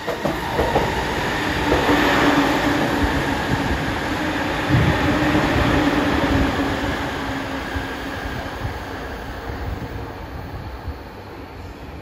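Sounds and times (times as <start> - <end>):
train hum: 0.0 - 12.0.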